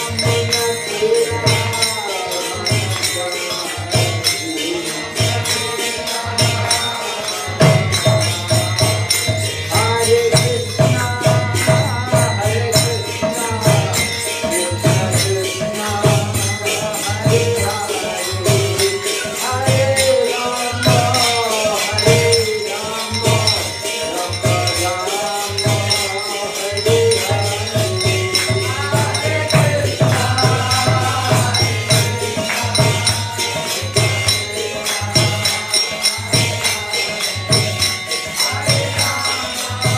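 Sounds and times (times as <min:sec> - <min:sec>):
man singing a mantra: 0:00.0 - 0:39.9
small hand cymbals striking: 0:00.0 - 0:39.9.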